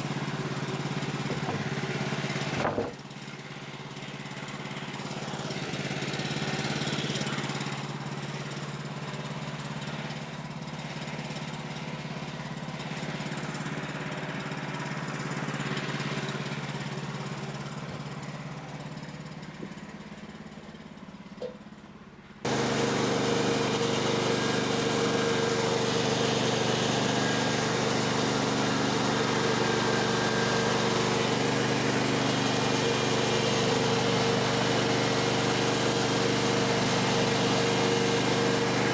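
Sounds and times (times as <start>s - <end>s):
sawmill gasoline engine running: 0.0s - 38.9s.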